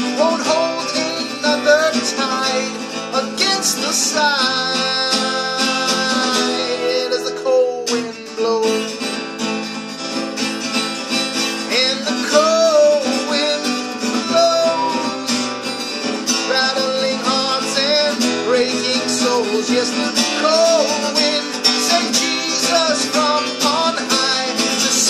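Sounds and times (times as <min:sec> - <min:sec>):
man singing a slow folk song: 0:00.0 - 0:09.3, 0:11.4 - 0:25.0
acoustic guitar strumming: 0:00.0 - 0:25.0.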